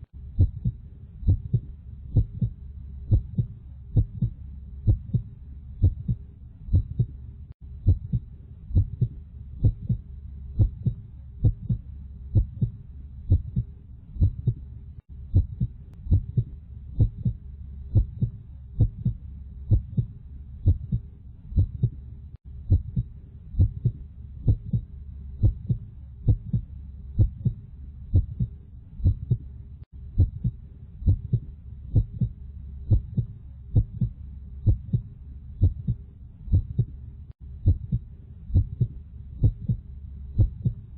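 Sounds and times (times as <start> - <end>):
continuous low hum: 0.0 - 40.9
heartbeat thumps: 0.2 - 40.9.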